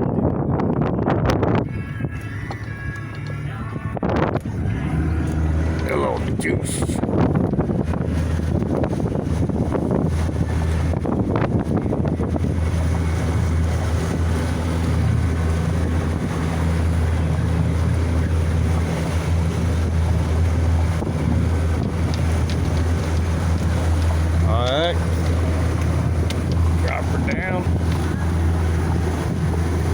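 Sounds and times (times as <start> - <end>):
outboard motor droning: 0.0 - 29.9
wind buffeting microphone: 0.0 - 29.9.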